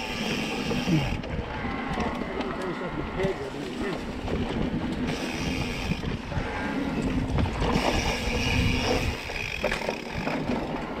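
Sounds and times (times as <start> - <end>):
bike rattling: 0.0 - 11.0
tyres rumbling on dirt: 0.0 - 11.0
wind buffeting microphone: 0.1 - 11.0.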